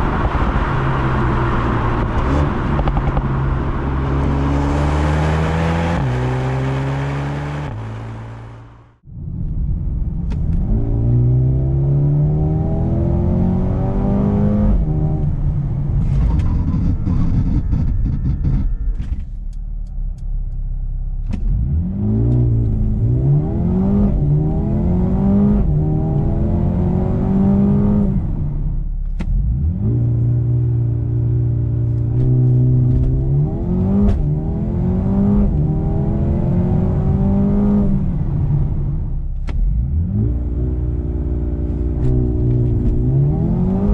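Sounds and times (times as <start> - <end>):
car engine accelerating hard: 0.0 - 9.0, 10.2 - 19.2, 19.9 - 43.9.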